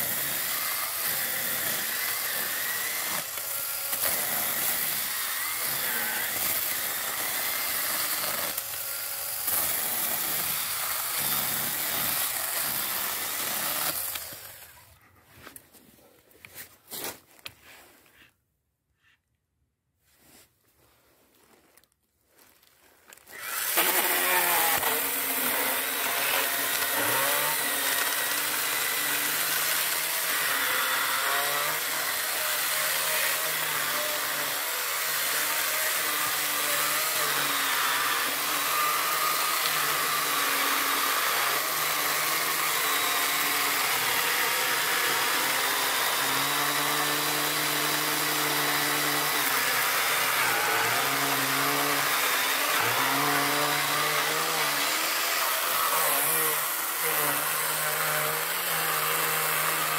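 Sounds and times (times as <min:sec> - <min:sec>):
mini chainsaw cutting a log: 0:00.0 - 0:14.9, 0:23.2 - 0:59.9.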